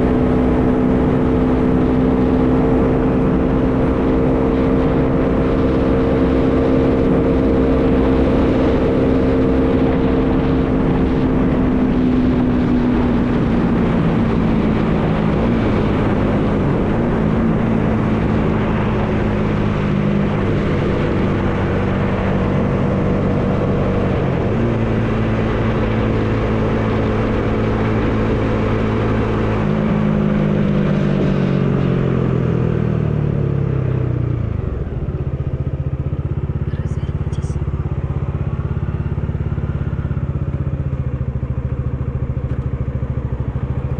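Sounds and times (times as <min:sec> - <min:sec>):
wind noise: 0:00.0 - 0:35.3
motorcycle engine pulling steadily: 0:00.0 - 0:43.9.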